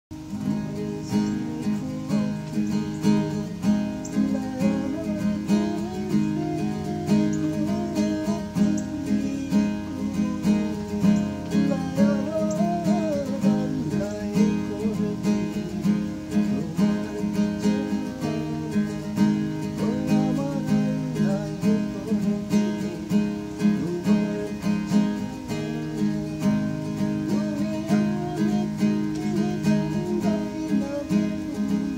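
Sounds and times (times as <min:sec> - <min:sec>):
acoustic guitar strumming: 0:00.1 - 0:31.9.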